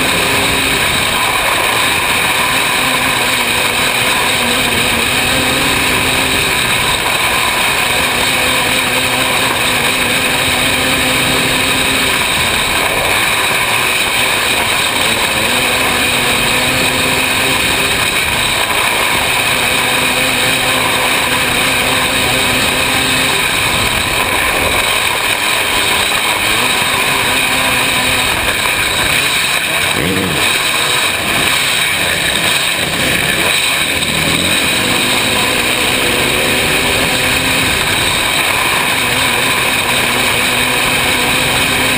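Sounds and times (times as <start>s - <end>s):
racing engine at high revs: 0.0s - 41.9s.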